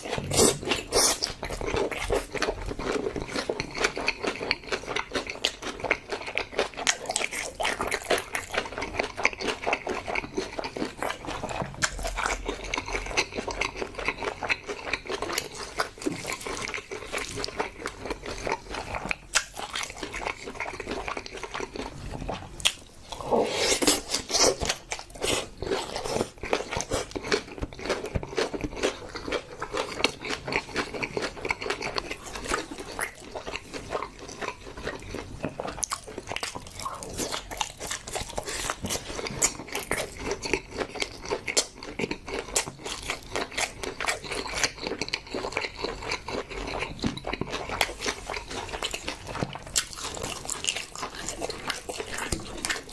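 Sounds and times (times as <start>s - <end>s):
wet chewing and biting: 0.0s - 52.9s.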